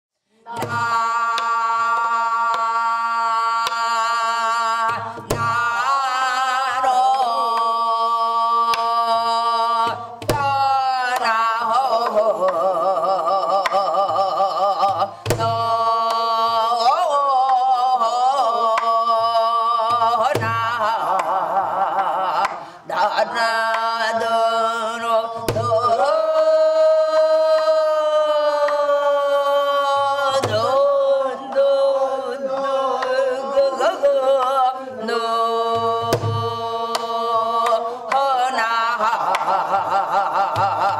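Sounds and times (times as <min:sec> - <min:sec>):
wordless vocal with slow vibrato: 0:00.3 - 0:40.9.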